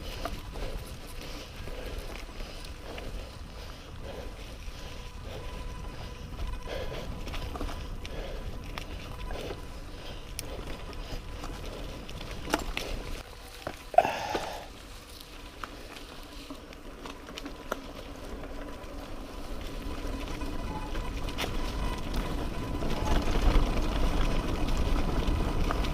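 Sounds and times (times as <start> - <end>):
bike clicks and rattles: 0.0 - 25.9
bike rolling on dirt trail: 0.0 - 25.9.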